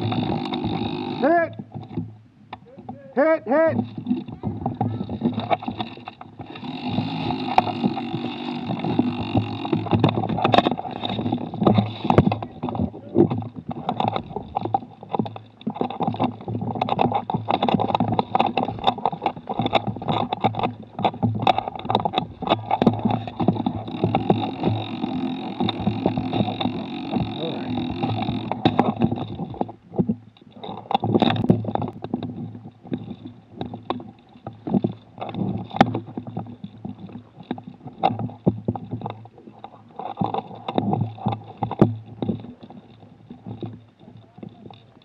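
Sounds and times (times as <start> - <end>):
steady rumble: 0.0 - 45.0.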